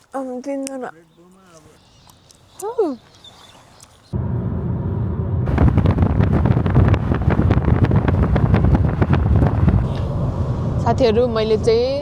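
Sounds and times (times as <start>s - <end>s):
wind buffeting microphone: 1.9s - 12.0s.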